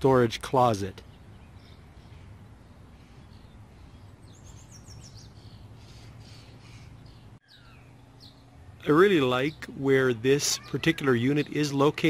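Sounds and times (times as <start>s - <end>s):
low background hum: 0.0s - 12.0s
songbirds chirping: 0.0s - 12.0s.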